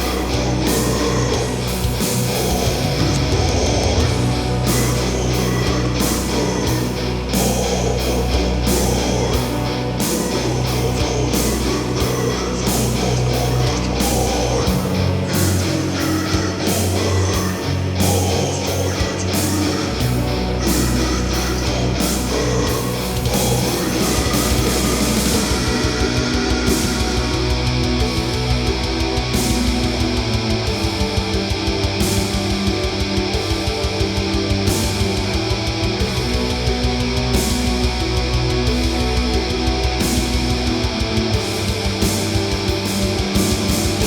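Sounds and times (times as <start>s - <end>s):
heavy metal music: 0.0s - 44.0s.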